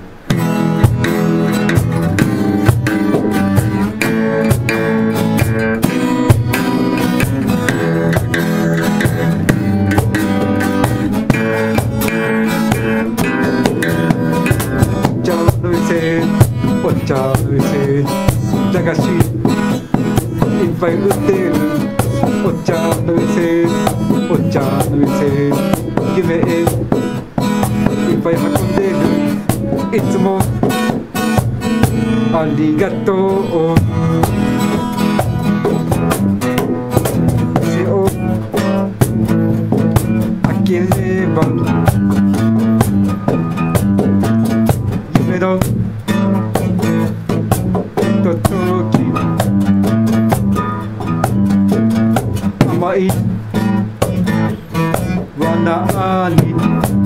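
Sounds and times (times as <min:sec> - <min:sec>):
acoustic guitars strumming: 0:00.0 - 0:57.0
cajon beat: 0:00.0 - 0:57.0.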